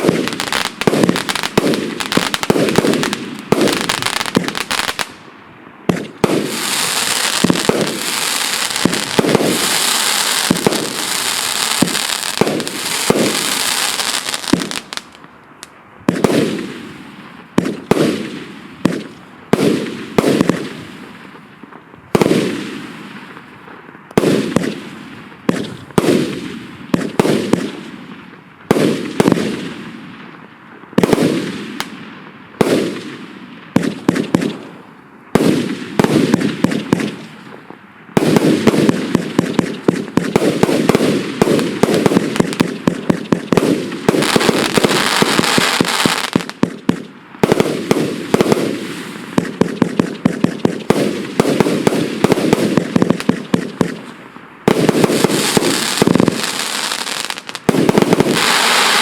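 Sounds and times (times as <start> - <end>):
firework bangs: 0.0 - 5.2, 5.8 - 15.2, 16.0 - 23.5, 24.1 - 28.0, 28.6 - 30.2, 31.0 - 32.0, 32.6 - 59.0
firework crackling: 0.0 - 5.2, 5.8 - 27.9, 31.0 - 59.0.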